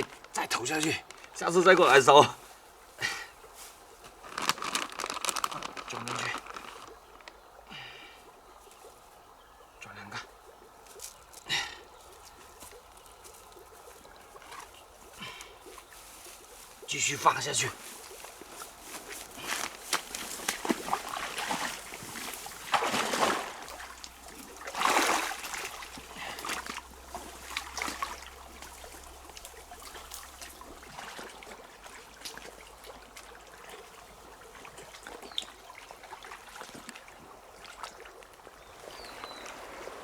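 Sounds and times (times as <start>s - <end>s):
water splashing: 0.0s - 7.6s, 10.4s - 40.0s
water trickling: 0.0s - 40.0s.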